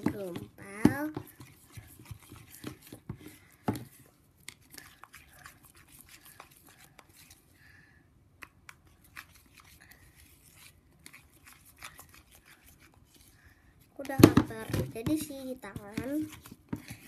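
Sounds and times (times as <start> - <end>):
spoon stirring sticky slime: 0.0 - 7.5, 8.4 - 17.0.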